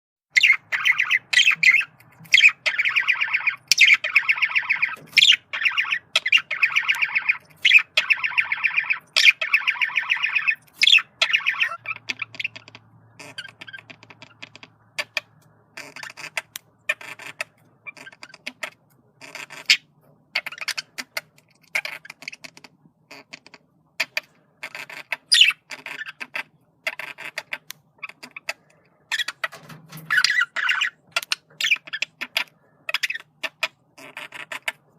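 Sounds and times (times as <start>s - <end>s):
budgerigar chattering: 0.3s - 34.9s.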